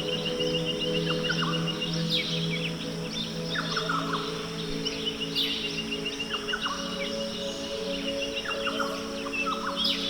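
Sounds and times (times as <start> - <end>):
soft music of held tones: 0.0 - 10.0.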